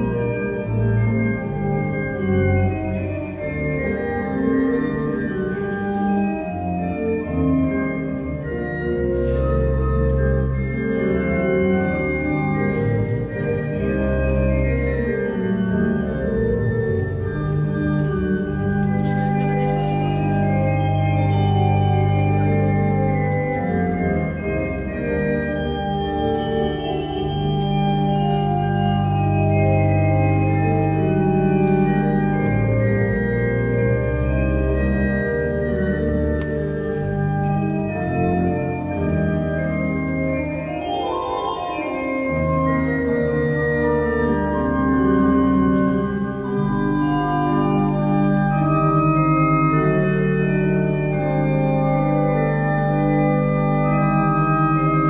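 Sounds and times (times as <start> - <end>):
church organ playing chords: 0.0 - 55.0.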